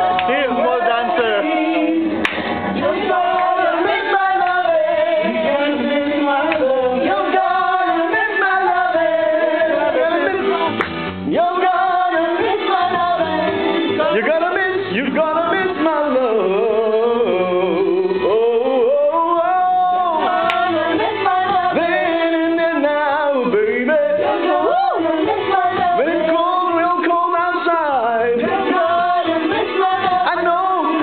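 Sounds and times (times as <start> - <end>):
man singing into microphone: 0.0 - 2.2, 2.8 - 31.0
backing music: 0.0 - 31.0.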